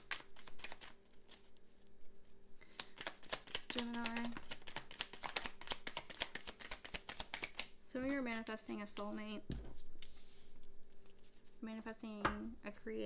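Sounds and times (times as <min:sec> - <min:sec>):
cards being shuffled: 0:00.0 - 0:11.6.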